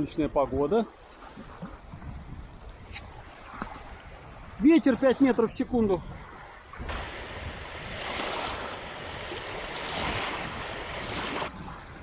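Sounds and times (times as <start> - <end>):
wind buffeting microphone: 0.0 - 12.0
waves washing in: 0.8 - 12.0
strong wind gusting: 1.4 - 12.0.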